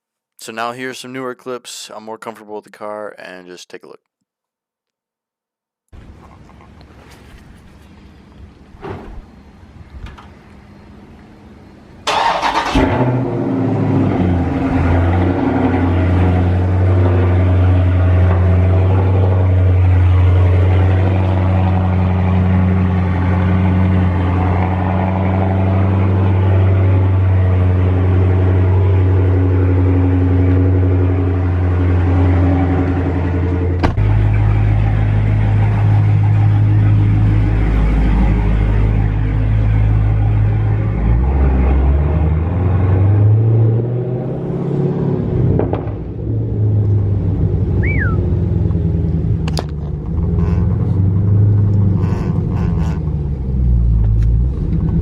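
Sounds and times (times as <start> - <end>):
car engine starting and idling: 6.0 - 55.0.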